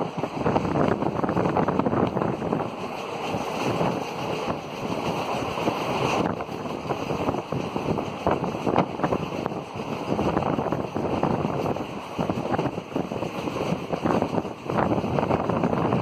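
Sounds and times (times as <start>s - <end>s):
train wheels clattering on rails: 0.0s - 16.0s
wind buffeting microphone: 0.0s - 16.0s.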